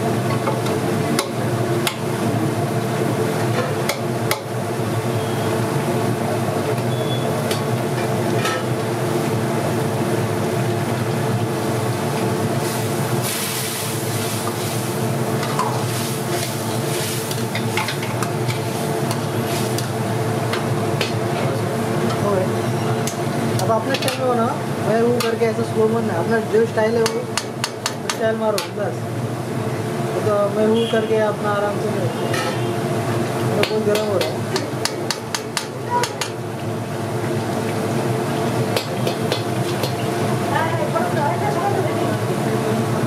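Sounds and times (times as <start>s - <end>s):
food sizzling: 0.0s - 30.3s, 31.7s - 43.0s.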